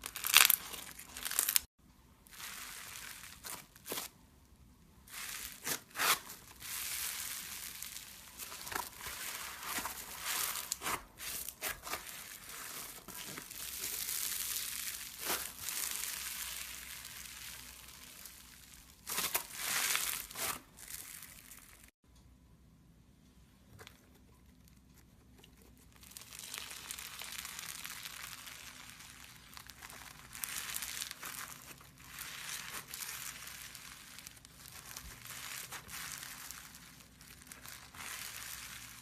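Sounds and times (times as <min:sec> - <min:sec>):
crunchy slime crackling: 0:00.0 - 0:04.2, 0:05.0 - 0:22.0, 0:24.6 - 0:39.0.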